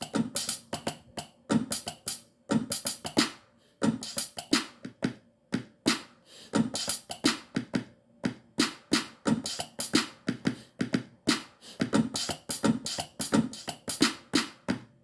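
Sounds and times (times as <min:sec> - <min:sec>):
drum machine beat: 0:00.0 - 0:14.9.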